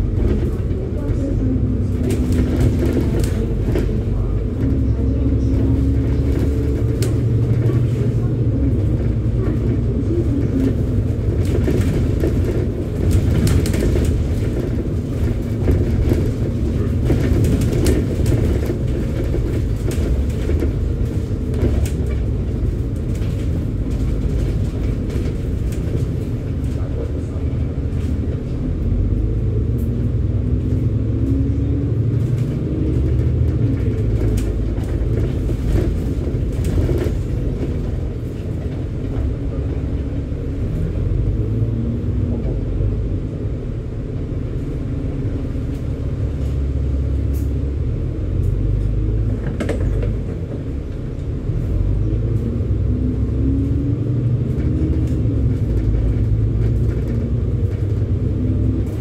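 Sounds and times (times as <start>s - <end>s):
bodywork rattles and clicks: 0.0s - 42.9s, 45.0s - 59.0s
bus engine running: 0.0s - 59.0s
road noise rumble: 0.0s - 59.0s.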